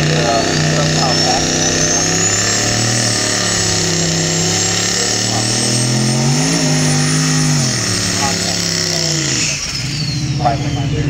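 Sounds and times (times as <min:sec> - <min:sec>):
car engine revving: 0:00.0 - 0:11.0
thin high whine: 0:00.0 - 0:11.0.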